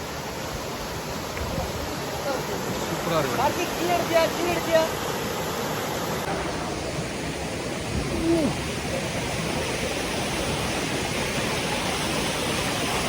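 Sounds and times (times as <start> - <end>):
water rushing down a stream: 0.0 - 13.0.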